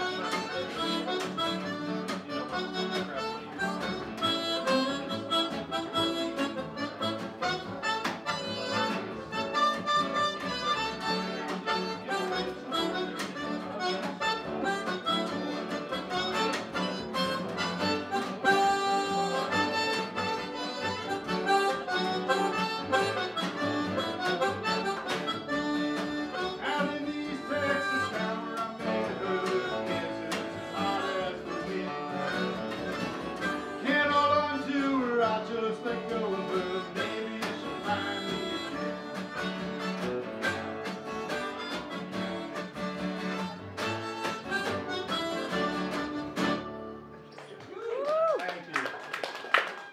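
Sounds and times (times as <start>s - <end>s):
harmonica: 0.0s - 47.2s
acoustic guitars: 0.0s - 47.6s.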